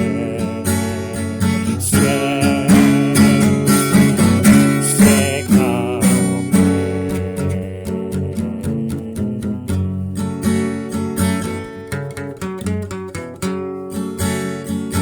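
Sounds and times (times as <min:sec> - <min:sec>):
strummed acoustic guitar music: 0:00.0 - 0:15.0.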